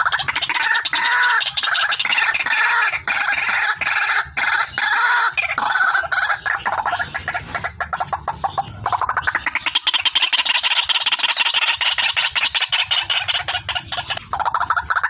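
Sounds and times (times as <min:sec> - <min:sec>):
bird calling harsh repeated notes: 0:00.0 - 0:15.0.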